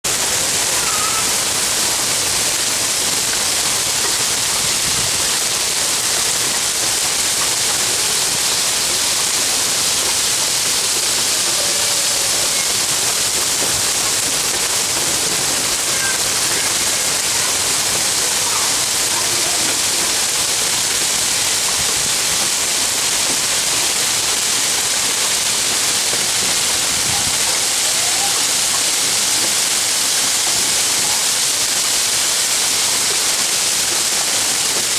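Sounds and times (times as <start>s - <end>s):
hail and rain falling hard: 0.0s - 34.9s.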